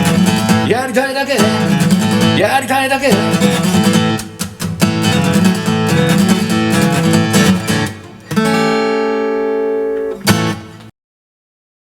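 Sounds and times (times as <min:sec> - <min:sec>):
acoustic guitar strumming: 0:00.0 - 0:10.9.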